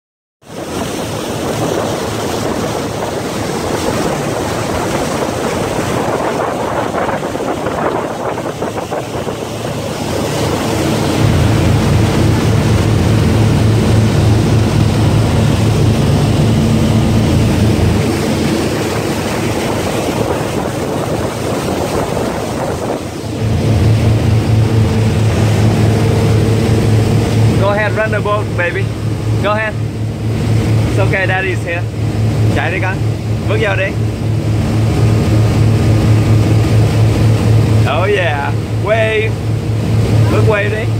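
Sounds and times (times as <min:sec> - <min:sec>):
boat engines droning: 0:00.4 - 0:40.9
water rushing past boat hull: 0:00.4 - 0:40.9.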